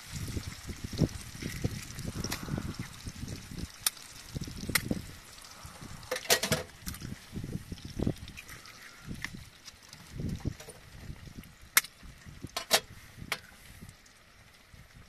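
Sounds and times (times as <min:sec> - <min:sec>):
eggs and sausage sizzling in pan: 0:00.0 - 0:15.0.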